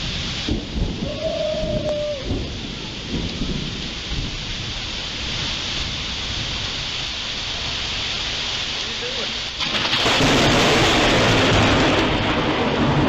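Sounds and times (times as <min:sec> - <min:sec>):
low rumbling thunder: 0:00.0 - 0:07.8, 0:09.6 - 0:13.0
heavy rain falling: 0:00.0 - 0:13.0.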